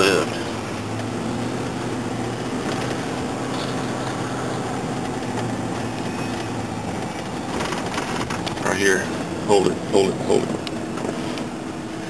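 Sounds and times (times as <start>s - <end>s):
car engine and road noise: 0.0s - 12.0s
constant low hum: 0.0s - 12.0s.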